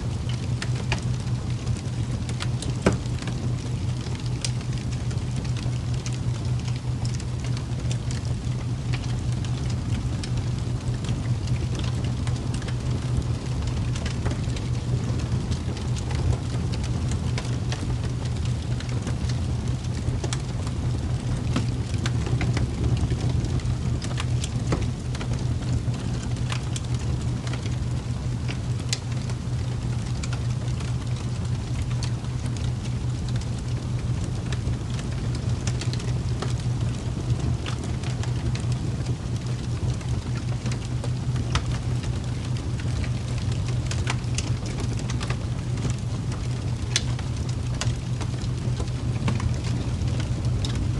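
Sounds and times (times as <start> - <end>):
low steady hum: 0.0 - 50.9
rain hiss: 0.0 - 50.9.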